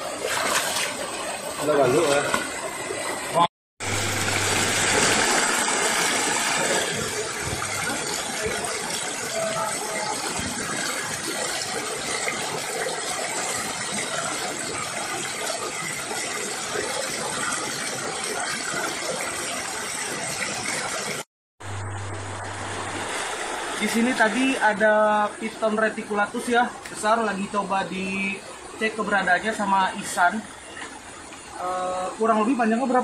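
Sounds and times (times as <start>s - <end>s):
river running over stones: 0.0s - 33.0s.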